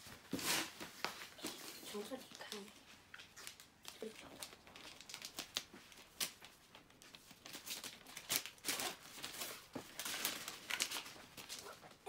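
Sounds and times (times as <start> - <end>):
wrapping paper tearing and crinkling: 0.3 - 12.0.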